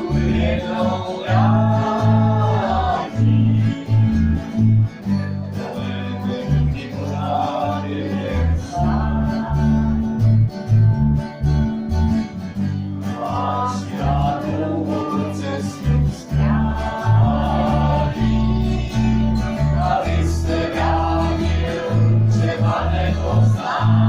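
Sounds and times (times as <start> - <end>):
acoustic guitar: 0.0 - 24.0
bass line: 0.0 - 24.0.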